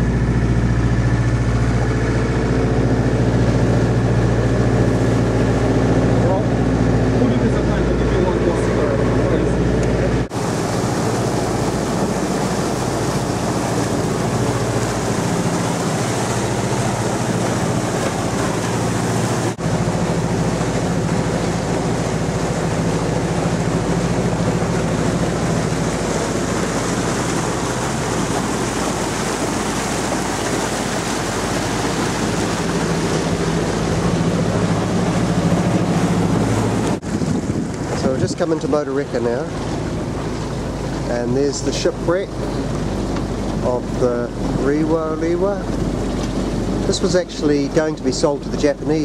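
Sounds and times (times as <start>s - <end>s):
motor boat engine drone: 0.0s - 49.0s
rush of wind and water: 0.0s - 49.0s.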